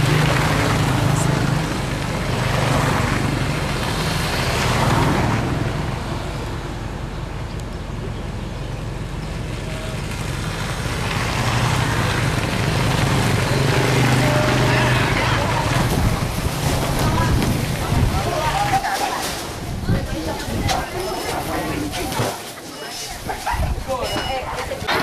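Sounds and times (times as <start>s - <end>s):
motorbikes riding past: 0.0s - 20.3s.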